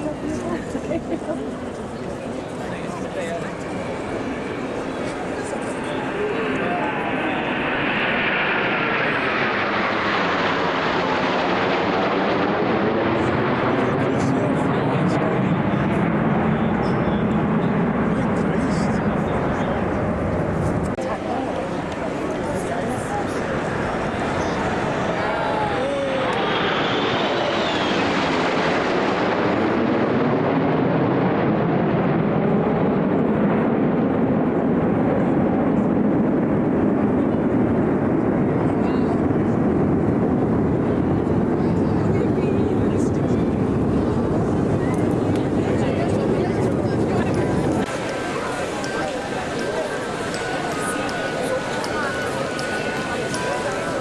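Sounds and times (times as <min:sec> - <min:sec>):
aircraft roaring overhead: 0:00.0 - 0:54.0.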